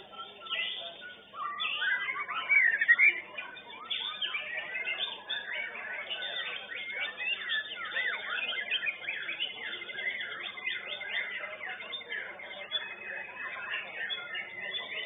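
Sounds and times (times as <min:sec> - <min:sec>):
songbirds singing whistled trills: 0:00.0 - 0:15.0.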